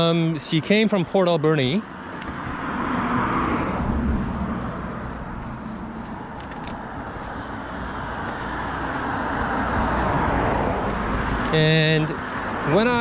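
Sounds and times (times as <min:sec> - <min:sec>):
passing vehicles rushing: 0:00.0 - 0:13.0.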